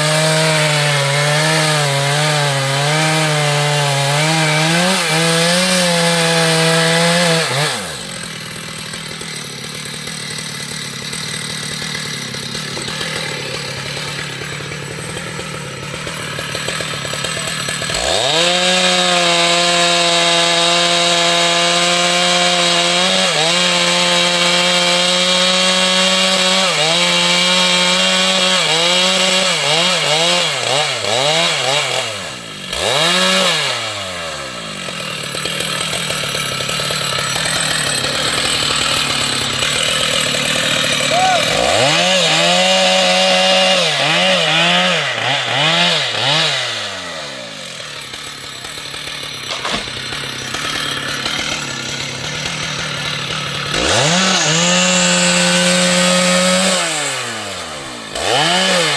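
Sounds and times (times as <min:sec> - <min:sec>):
chainsaw cutting into tree trunk: 0:00.0 - 0:58.9.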